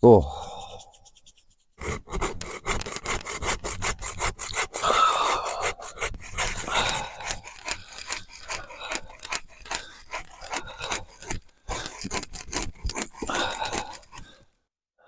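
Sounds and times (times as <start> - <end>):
hand saw cutting wood: 0.9 - 14.5.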